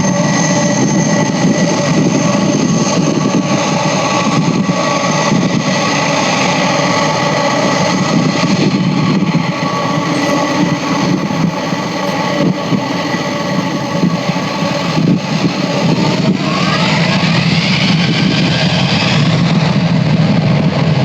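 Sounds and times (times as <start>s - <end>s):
jet engines rushing and whining: 0.0s - 21.0s.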